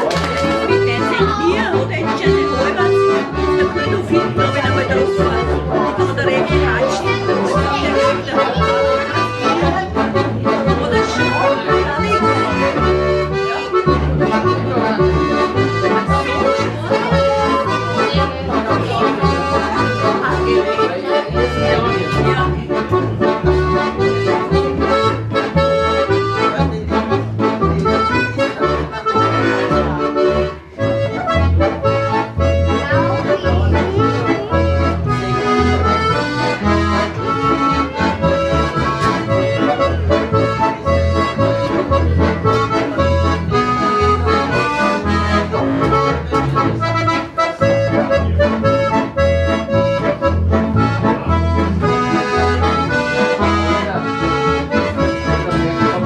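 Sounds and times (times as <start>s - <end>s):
button accordions playing folk tune: 0.0s - 56.0s.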